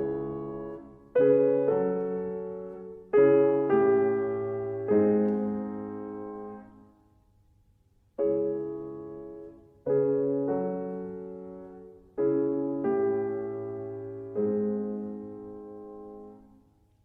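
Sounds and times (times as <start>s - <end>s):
slow piano chords: 0.0s - 7.4s, 8.2s - 17.0s.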